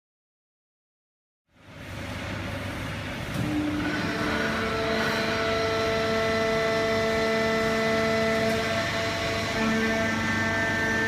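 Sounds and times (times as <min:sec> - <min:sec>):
baling press machine whine: 0:01.6 - 0:11.0.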